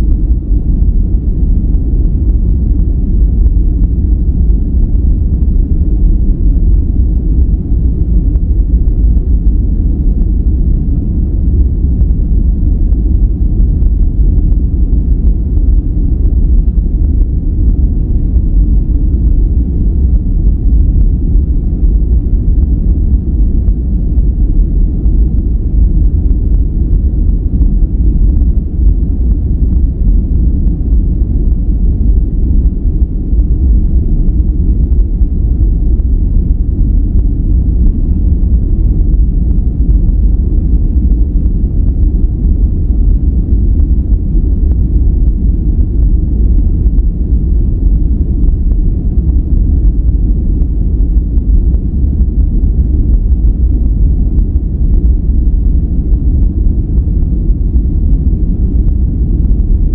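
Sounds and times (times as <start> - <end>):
deep rumbling brown noise: 0.0 - 59.9.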